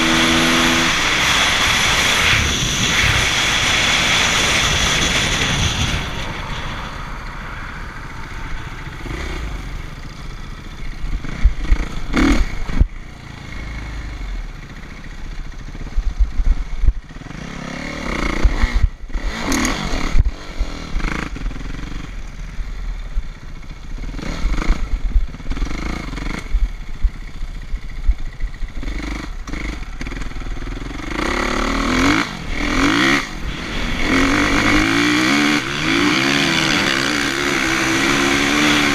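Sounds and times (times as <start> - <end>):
dirt bike engines revving: 0.0 - 22.5, 23.4 - 38.9
steady low rumble: 1.2 - 17.4, 20.2 - 38.0.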